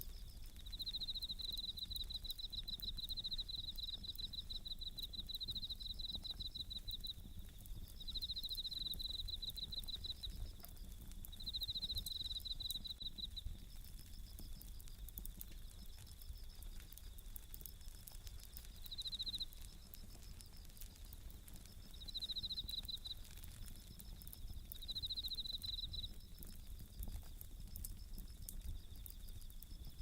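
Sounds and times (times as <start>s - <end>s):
campfire crackling: 0.0s - 30.0s
crickets chirping in trills: 0.0s - 30.0s.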